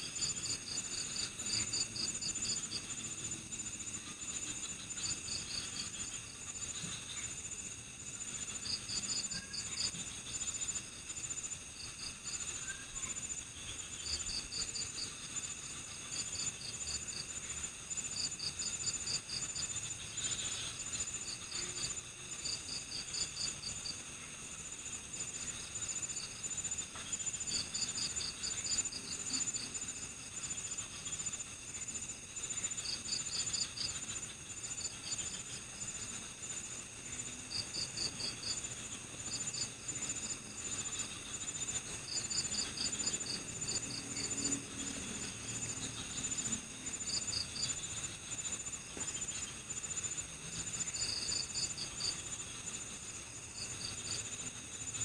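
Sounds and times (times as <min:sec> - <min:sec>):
cricket chirps: 0:00.0 - 0:55.0
insects trilling: 0:00.0 - 0:55.0.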